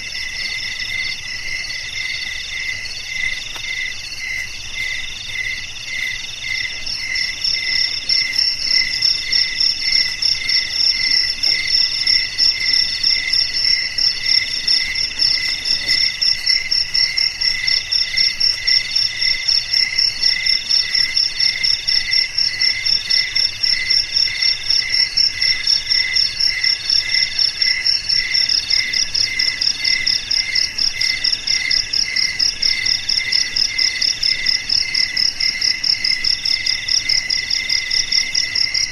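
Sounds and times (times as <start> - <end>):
crickets chirping: 0.0 - 38.9
fast high pulsing insect call: 0.0 - 38.9.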